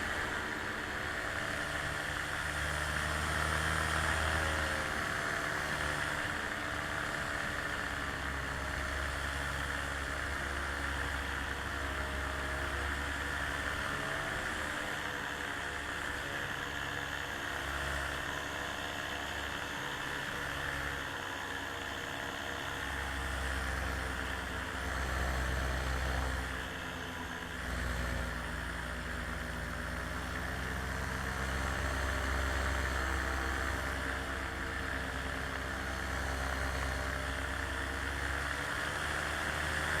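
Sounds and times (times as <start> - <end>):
aircraft engine in flight: 0.0 - 40.0.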